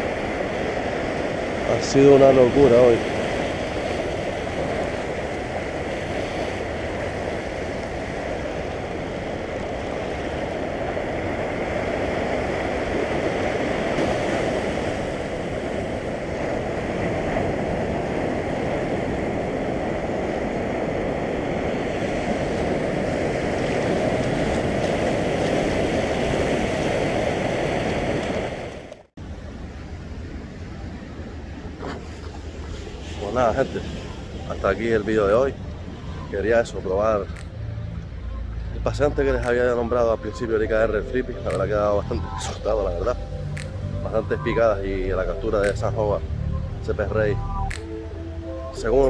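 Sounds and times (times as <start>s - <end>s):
surf washing over rocks: 0.0s - 49.0s.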